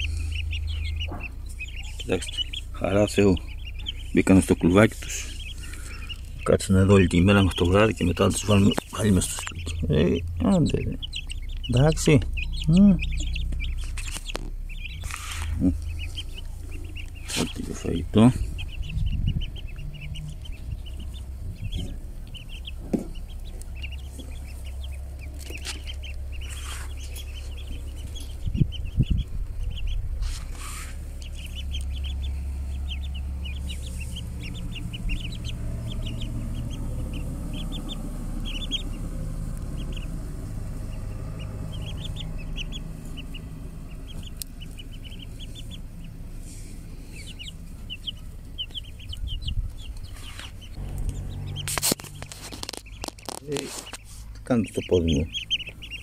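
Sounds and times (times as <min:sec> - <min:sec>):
chicks and ducklings peeping: 0:00.0 - 0:56.0
low rumble: 0:00.0 - 0:56.0.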